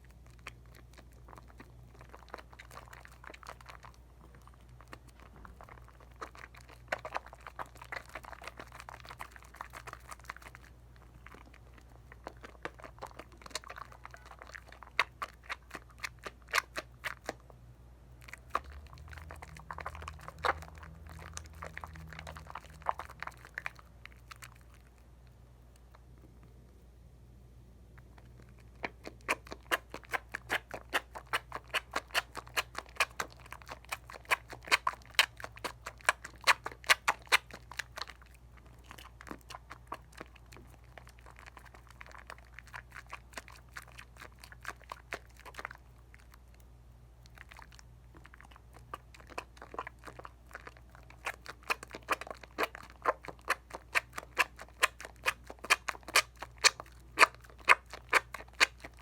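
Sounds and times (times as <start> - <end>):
wet squishing of soap lather: 0.0 - 17.6, 18.2 - 26.1, 28.0 - 59.0.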